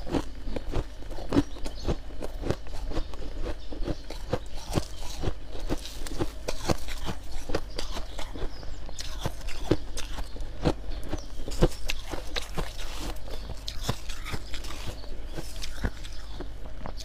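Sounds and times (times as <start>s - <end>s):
chewing crisp frost: 0.0s - 17.0s.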